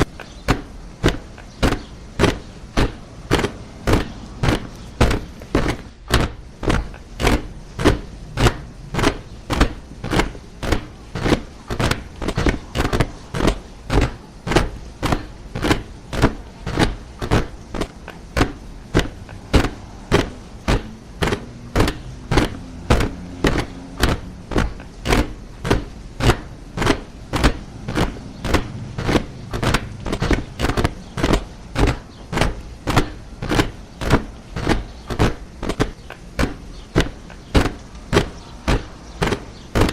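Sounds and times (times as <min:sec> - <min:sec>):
soldiers marching in step: 0:00.0 - 0:39.9.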